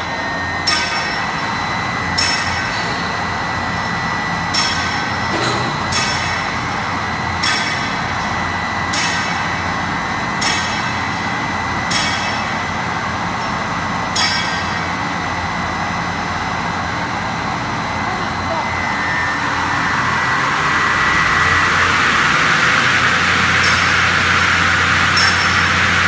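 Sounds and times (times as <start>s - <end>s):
machine hum with high whine: 0.0s - 26.0s.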